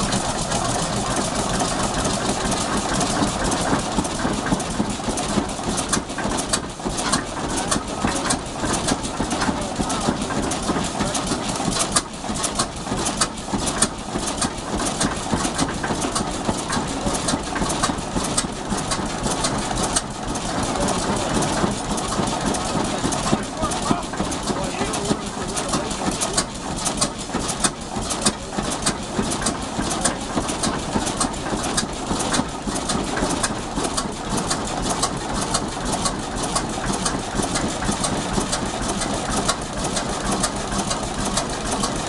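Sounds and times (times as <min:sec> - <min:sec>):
diesel engine idling: 0:00.0 - 0:42.0
sharp clicks and knocks: 0:00.0 - 0:42.0.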